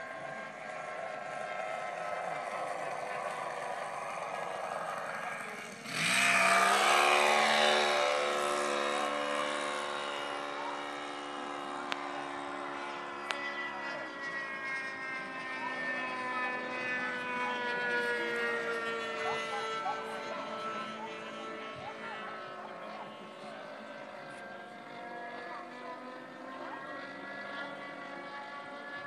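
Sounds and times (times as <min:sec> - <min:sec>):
model plane engine whine: 0:00.0 - 0:29.0.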